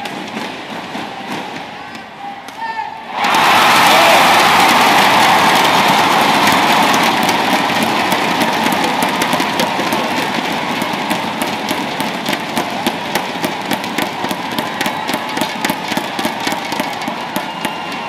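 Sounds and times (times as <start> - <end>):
crowd cheering: 0.6 - 18.0
scattered clapping: 3.2 - 18.0.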